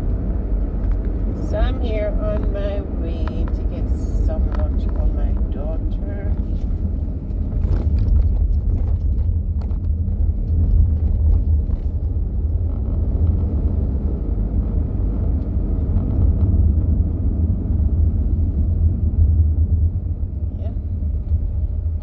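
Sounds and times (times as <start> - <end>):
car driving rumble inside cabin: 0.0 - 22.0.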